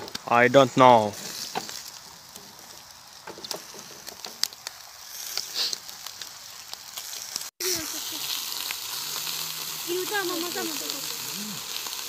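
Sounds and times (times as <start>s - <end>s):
meat sizzling on a grill: 0.0s - 12.0s
sharp crackles: 0.0s - 12.0s.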